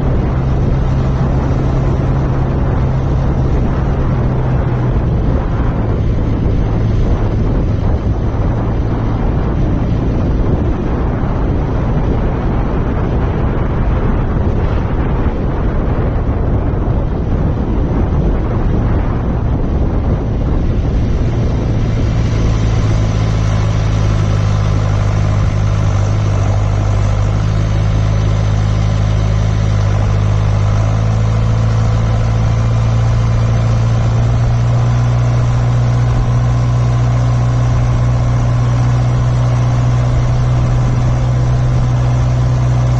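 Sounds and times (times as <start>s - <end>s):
tractor diesel engine running: 0.0s - 42.9s
wind buffeting microphone: 0.0s - 42.9s.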